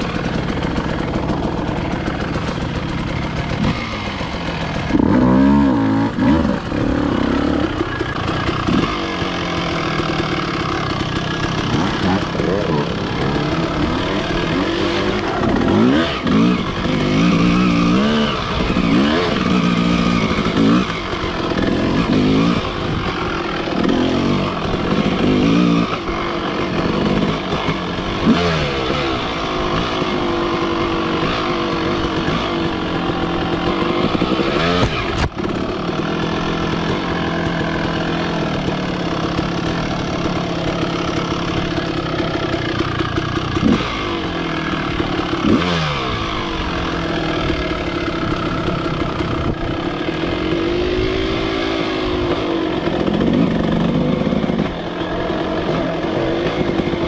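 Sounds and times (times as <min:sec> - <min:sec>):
two-stroke dirt bike engine revving: 0:00.0 - 0:57.0.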